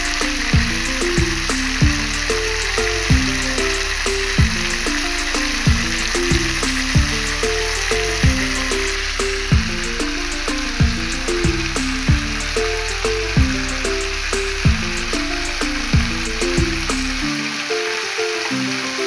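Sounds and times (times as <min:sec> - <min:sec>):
repeating bass line: 0:00.0 - 0:17.3
background music with deep kick drum: 0:00.0 - 0:17.6
chicken sizzling in a wok: 0:00.0 - 0:19.0.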